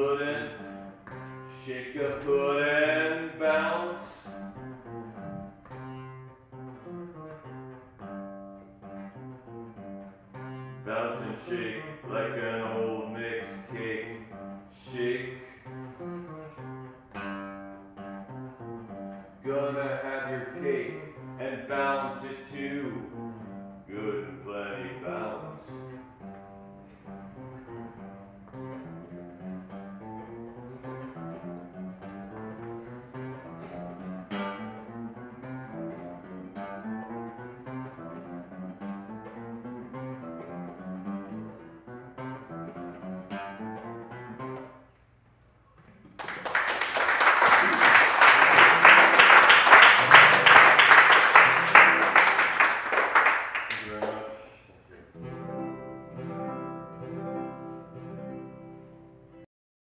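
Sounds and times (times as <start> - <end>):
solo guitar playing: 0.0 - 44.9, 46.1 - 53.9, 55.0 - 59.5.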